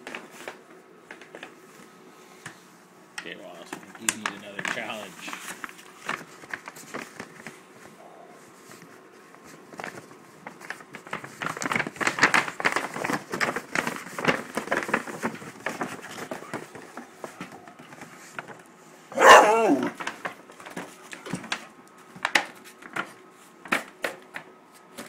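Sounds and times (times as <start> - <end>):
paper bag crinkling: 3.3 - 24.1.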